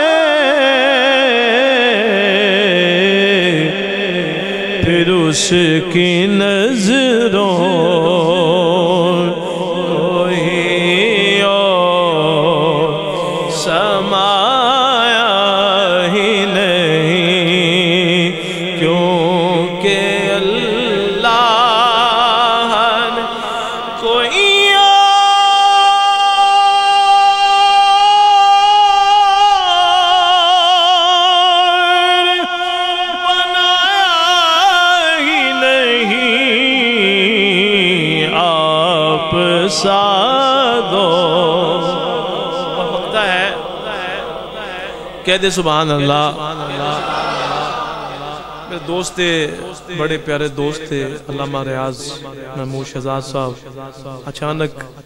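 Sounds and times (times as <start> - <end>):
man singing with vibrato: 0.0 - 55.0.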